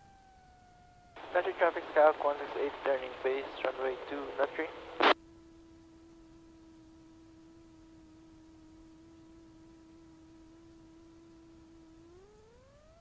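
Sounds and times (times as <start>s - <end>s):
faint steady humming tone: 0.0s - 13.0s
low hiss: 0.1s - 13.0s.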